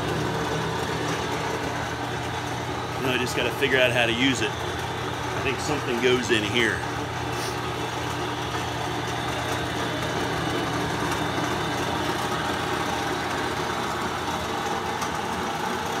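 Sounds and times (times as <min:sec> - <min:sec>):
wood lathe motor running: 0:00.0 - 0:16.0.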